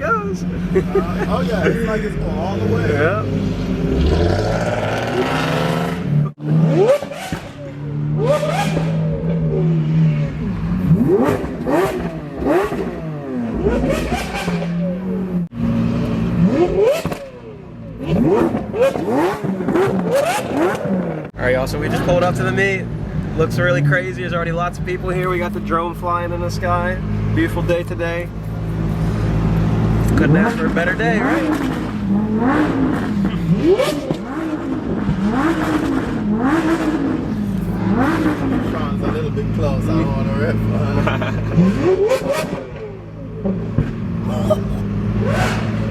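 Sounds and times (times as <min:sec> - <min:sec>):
sports car engines revving: 0:00.0 - 0:45.9.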